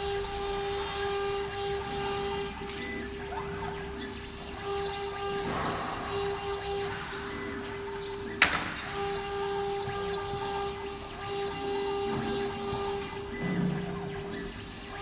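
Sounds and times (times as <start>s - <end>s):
router bit cutting hiss: 0.0s - 15.0s
spindle high whine: 0.0s - 15.0s.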